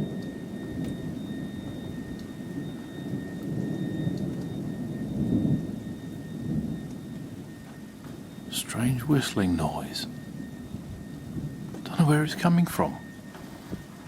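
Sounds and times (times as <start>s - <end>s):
high-pitched whistling whine: 0.0s - 14.0s
rain: 0.0s - 14.0s
thunder rumbling: 0.0s - 14.0s.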